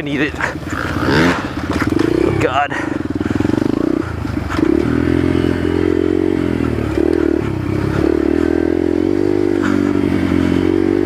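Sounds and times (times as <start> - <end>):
bike knocking and rattling: 0.0 - 11.0
dirt bike engine running: 0.0 - 11.0.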